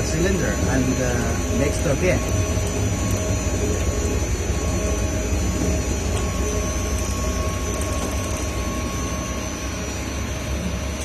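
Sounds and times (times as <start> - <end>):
mixer low drone: 0.0 - 11.0.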